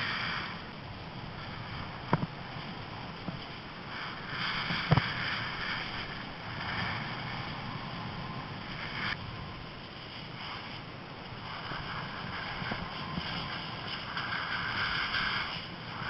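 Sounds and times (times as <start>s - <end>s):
snowboard sliding over snow: 0.0s - 16.0s
wind rushing over microphone: 0.0s - 16.0s.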